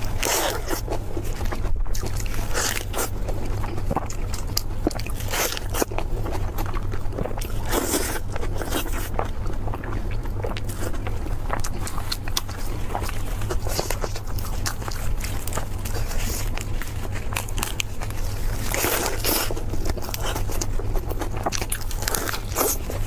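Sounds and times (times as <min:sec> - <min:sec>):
crunching and chewing crispy food: 0:00.0 - 0:23.0
low steady hum: 0:00.0 - 0:23.0.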